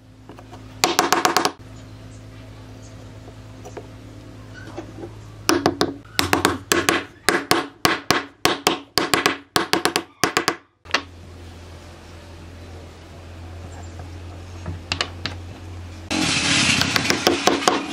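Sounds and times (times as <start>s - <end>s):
steady low hum: 0.0s - 9.7s, 10.8s - 17.9s.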